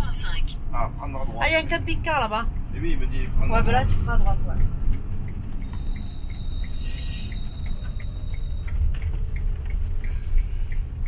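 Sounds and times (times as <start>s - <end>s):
engine and road rumble: 0.0s - 11.0s
turn indicator ticking: 1.5s - 11.0s.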